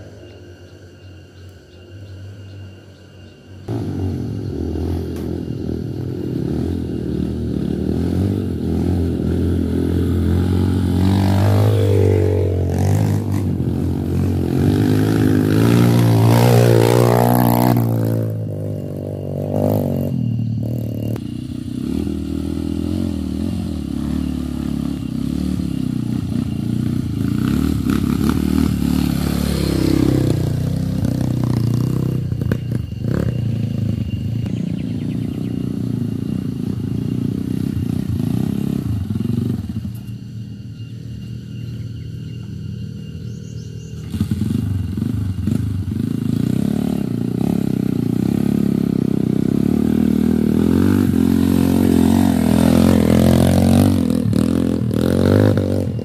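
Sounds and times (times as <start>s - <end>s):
dirt bike engines revving: 3.7s - 56.0s.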